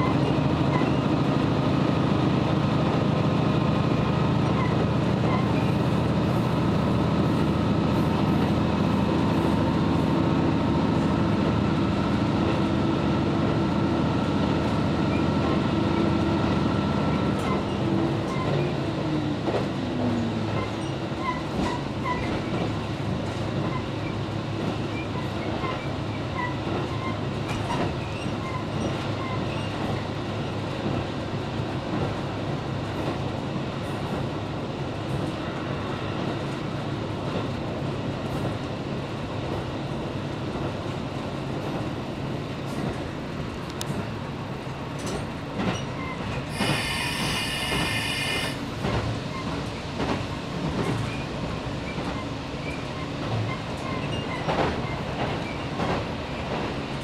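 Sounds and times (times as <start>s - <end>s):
diesel railcar engine and wheels: 0.0s - 57.0s.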